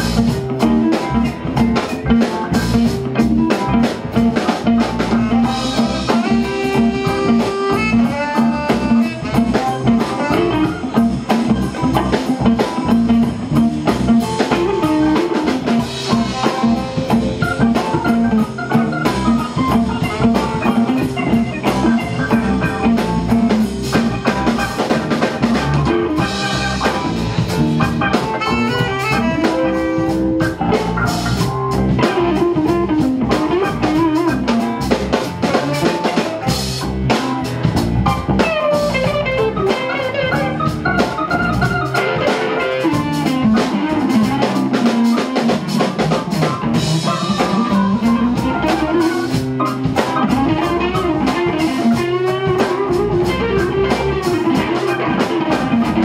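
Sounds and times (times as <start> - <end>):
live band instrumental jam: 0.0 - 56.0.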